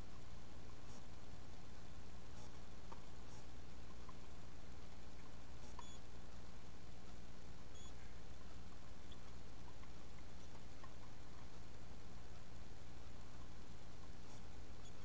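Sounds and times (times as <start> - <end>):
low electrical hum: 0.0 - 15.0
faint ticks: 2.4 - 15.0.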